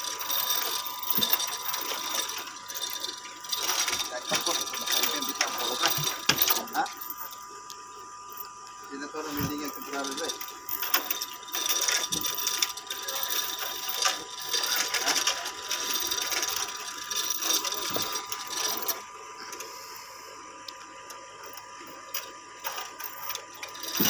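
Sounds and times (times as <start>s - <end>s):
ratchet clicking: 0.0s - 7.4s, 9.4s - 19.0s, 21.4s - 24.0s
chain rattling through hoist: 0.0s - 7.5s, 8.9s - 19.1s, 21.4s - 24.0s.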